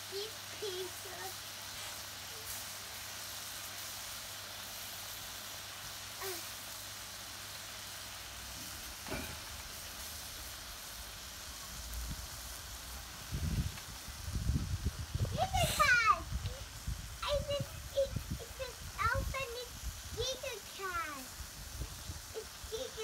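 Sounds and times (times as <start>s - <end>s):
meat sizzling in a pan: 0.0s - 23.0s.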